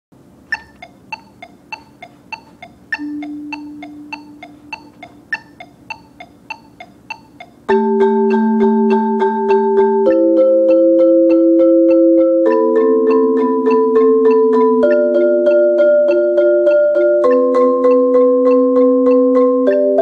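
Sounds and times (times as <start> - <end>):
metronome clicking: 0.4 - 20.0
marimba rolled chord: 0.5 - 20.0.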